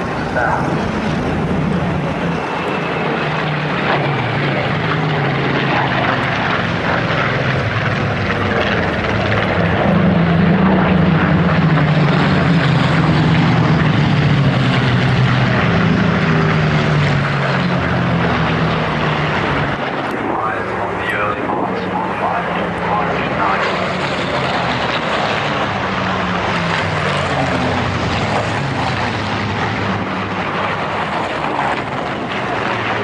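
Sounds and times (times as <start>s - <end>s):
propeller aircraft engine drone: 0.0s - 33.0s.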